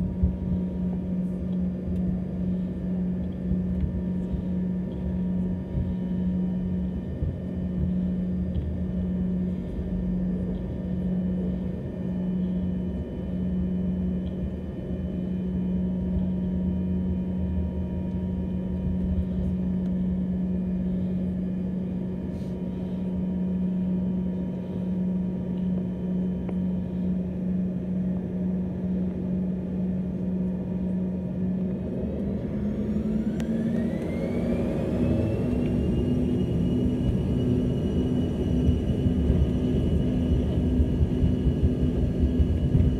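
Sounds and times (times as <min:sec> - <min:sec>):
jet engines humming in cabin: 0:00.0 - 0:42.9.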